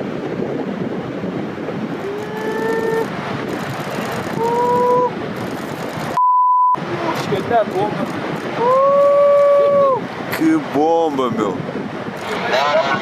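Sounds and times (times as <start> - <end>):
ocean surf: 0.0 - 6.2, 6.8 - 13.0
wind on microphone: 0.0 - 6.2, 6.8 - 13.0.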